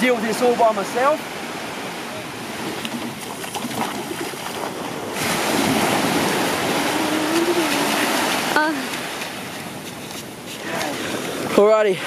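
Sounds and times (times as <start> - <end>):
shallow water splashing: 1.2 - 11.5.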